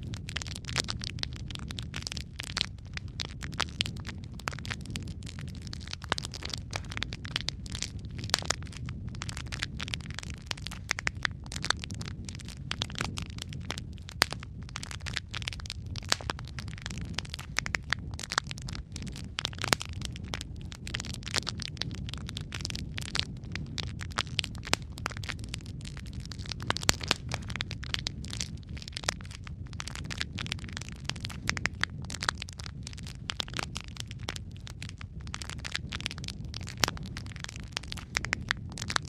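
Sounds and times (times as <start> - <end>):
burning wood crackling and popping: 0.0 - 39.0
fireplace flames rumbling: 0.0 - 39.0.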